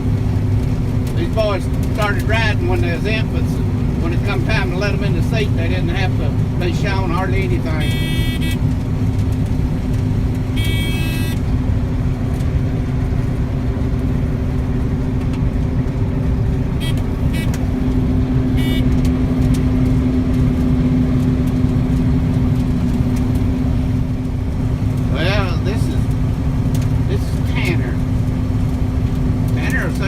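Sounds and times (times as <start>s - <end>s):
combine harvester engine drone: 0.0s - 30.0s.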